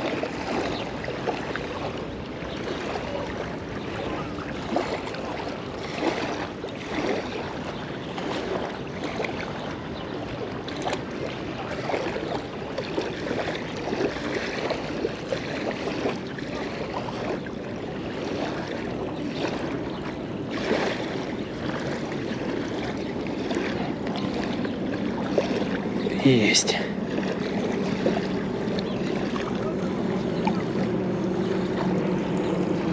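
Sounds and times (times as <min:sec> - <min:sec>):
small waves lapping on sand: 0:00.0 - 0:32.9.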